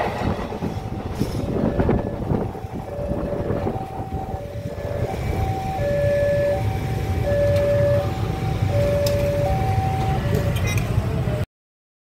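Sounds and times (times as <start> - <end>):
motorcycle engines rumbling: 0.0 - 11.4
level crossing warning alarm: 0.6 - 10.8.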